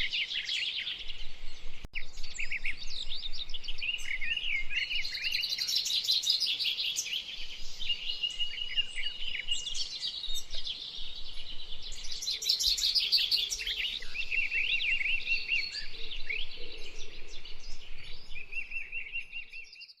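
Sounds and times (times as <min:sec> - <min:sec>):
chorus of birds chirping: 0:00.0 - 0:20.0.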